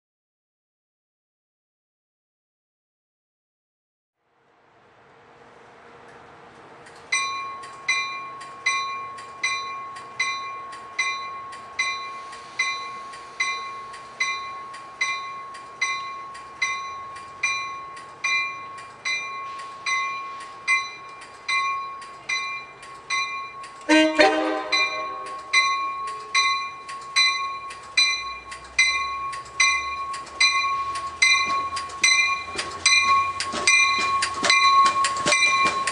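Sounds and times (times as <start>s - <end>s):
railroad warning bell ringing: 7.0s - 35.9s.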